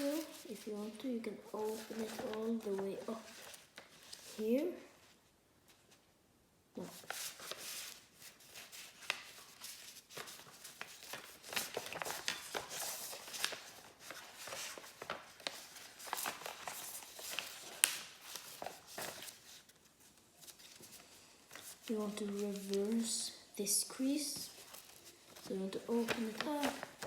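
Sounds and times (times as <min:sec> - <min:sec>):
paper rustling and crinkling: 0:00.0 - 0:06.1, 0:06.8 - 0:27.0.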